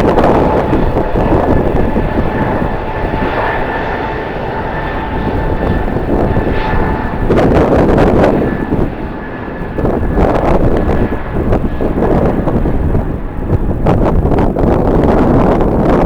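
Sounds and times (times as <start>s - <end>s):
airliner engines whining: 0.0s - 16.0s
wind on microphone: 0.0s - 16.0s.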